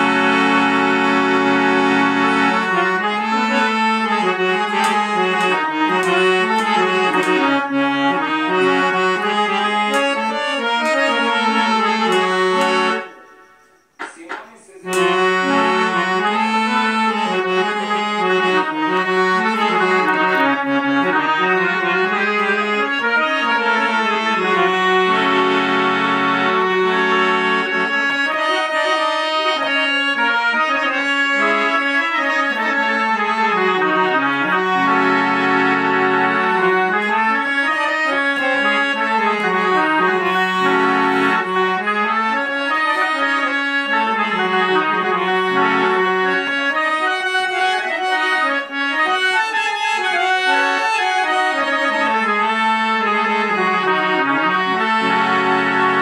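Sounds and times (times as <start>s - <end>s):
harmonium melody: 0.0s - 56.0s.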